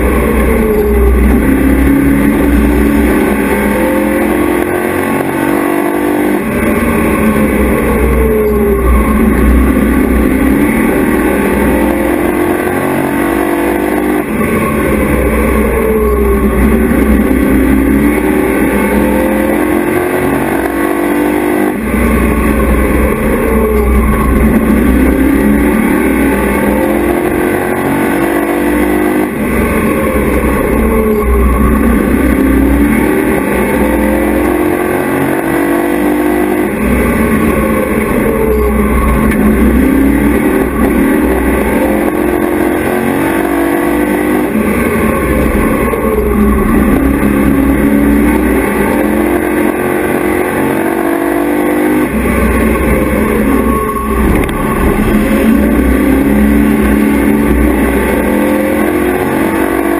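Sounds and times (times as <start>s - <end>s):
race truck engine revving: 0.0s - 59.9s.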